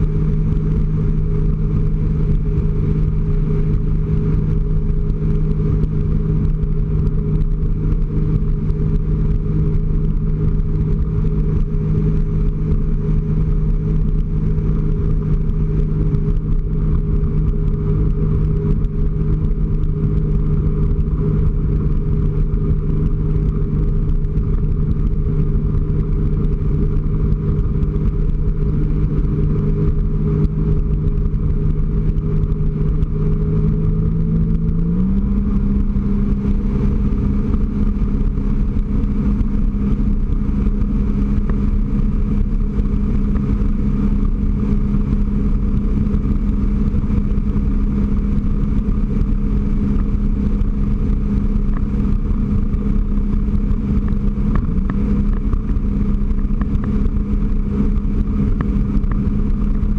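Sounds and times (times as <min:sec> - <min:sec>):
personal watercraft engine droning: 0:00.0 - 0:59.9.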